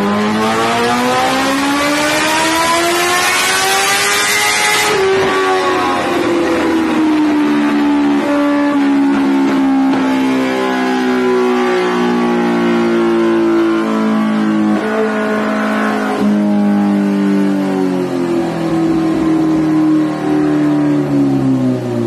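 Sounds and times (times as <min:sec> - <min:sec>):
motorcycle engine revving on dyno: 0:00.0 - 0:22.0.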